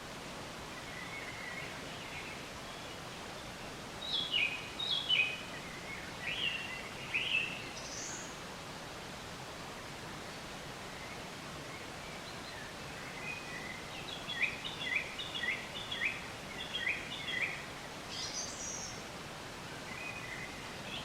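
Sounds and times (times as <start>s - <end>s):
outdoor ambience hiss: 0.0s - 21.0s
songbird singing: 0.7s - 8.4s, 10.2s - 21.0s.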